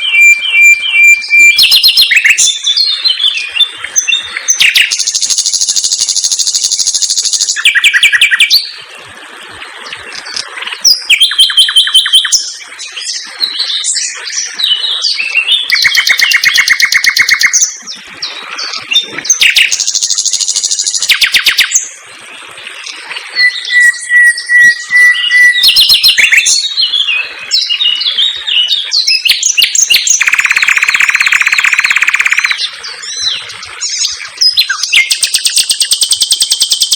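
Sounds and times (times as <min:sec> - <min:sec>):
nightingale singing: 0:00.0 - 0:08.8, 0:10.9 - 0:17.9, 0:18.6 - 0:21.9, 0:23.4 - 0:36.9.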